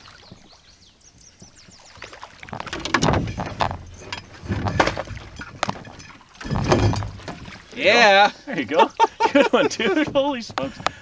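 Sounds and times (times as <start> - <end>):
water splashing: 0.0 - 0.7, 1.6 - 11.0.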